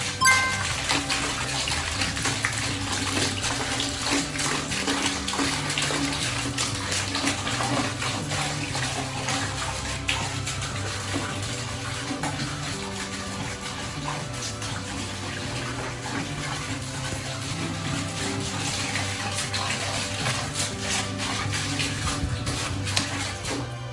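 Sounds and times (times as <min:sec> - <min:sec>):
background music with bass line: 0:00.0 - 0:23.9
water pouring and splashing: 0:00.0 - 0:23.9.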